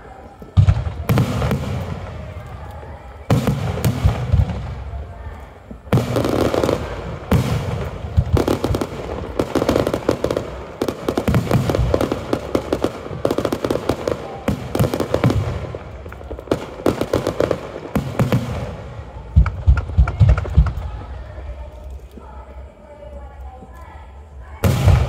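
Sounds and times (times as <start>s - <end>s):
fireworks bursting and crackling: 0.0s - 25.0s
heavy firework booms: 0.6s - 21.4s, 24.6s - 25.0s.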